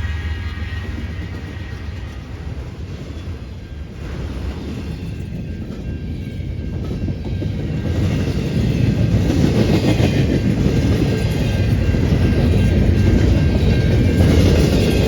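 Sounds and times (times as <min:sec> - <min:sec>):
train rumbling on rails: 0:00.0 - 0:15.0
train wheels clattering: 0:00.0 - 0:15.0.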